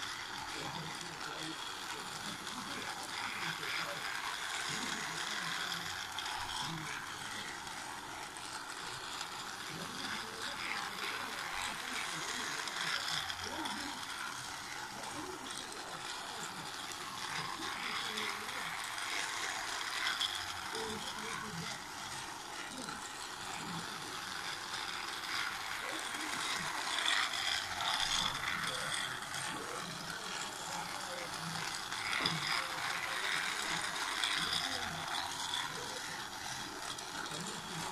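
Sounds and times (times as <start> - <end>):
toy train motor whirring: 0.0 - 37.9
toy train track clicks: 0.0 - 37.9.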